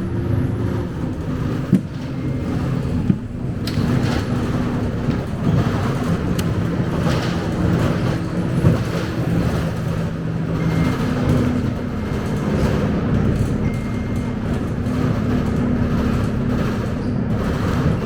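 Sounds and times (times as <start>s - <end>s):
bus engine droning: 0.0s - 18.0s
cabin rattles: 0.8s - 18.0s.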